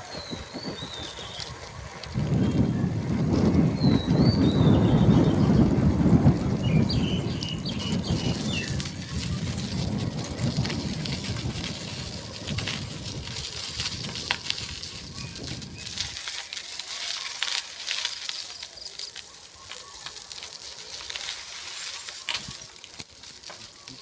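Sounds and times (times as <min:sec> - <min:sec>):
bicycle clicks and rattles: 0:00.0 - 0:24.0
wind rumble on microphone: 0:00.0 - 0:24.0.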